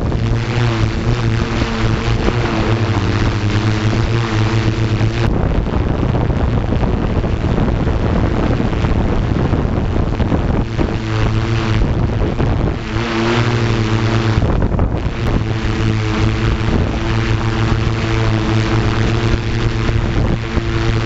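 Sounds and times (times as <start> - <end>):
drone motors humming: 0.0 - 21.0
rough rushing noise: 0.0 - 21.0.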